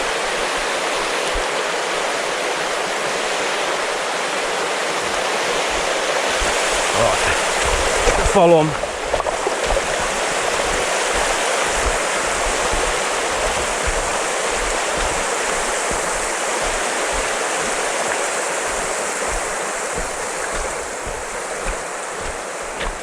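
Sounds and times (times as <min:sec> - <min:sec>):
river water rushing over stones: 0:00.0 - 0:23.0.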